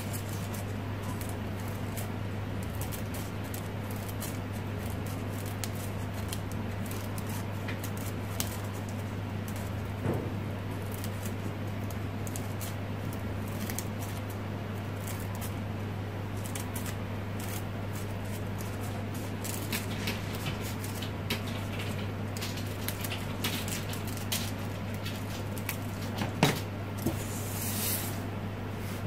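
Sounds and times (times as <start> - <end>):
scissors snipping paper: 0.0 - 9.9, 10.8 - 15.6, 16.4 - 27.2
steady low hum: 0.0 - 29.0.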